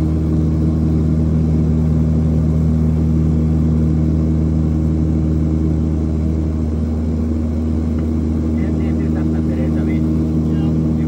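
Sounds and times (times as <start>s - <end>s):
aircraft engine droning in cabin: 0.0s - 11.0s.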